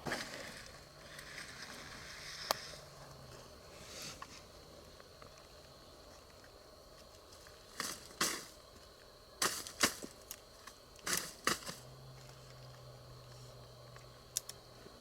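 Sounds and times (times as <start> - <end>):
faint low hum: 0.1 - 15.0.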